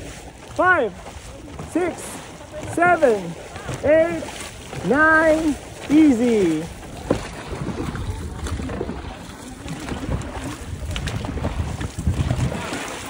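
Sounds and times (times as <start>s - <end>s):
water rushing: 0.0s - 13.0s
wind buffeting microphone: 0.0s - 13.0s.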